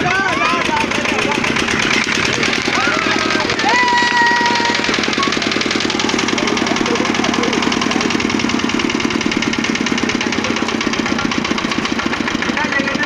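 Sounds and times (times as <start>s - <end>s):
small generator engine running: 0.0s - 13.0s.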